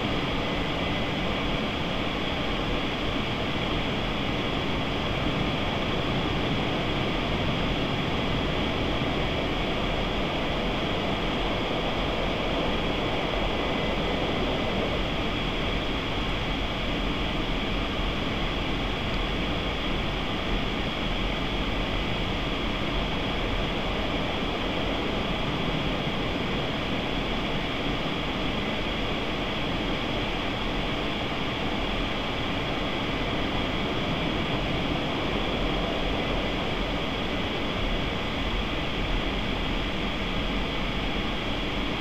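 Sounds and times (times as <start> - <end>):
muffled car wash rushing: 0.0 - 42.0.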